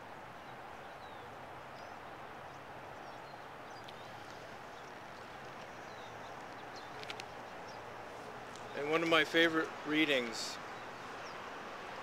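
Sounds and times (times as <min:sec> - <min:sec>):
low background hiss: 0:00.0 - 0:12.0.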